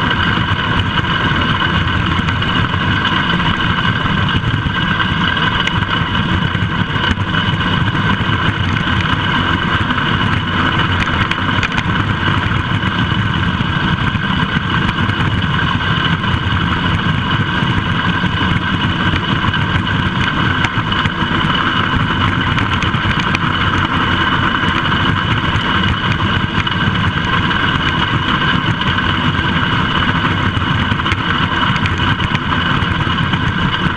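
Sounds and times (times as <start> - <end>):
tractor engine running under load: 0.0 - 33.9.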